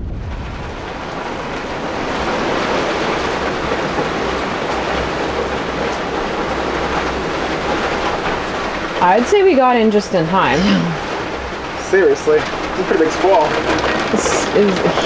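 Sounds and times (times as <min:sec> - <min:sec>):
heavy rain pelting boat deck: 0:00.0 - 0:15.0.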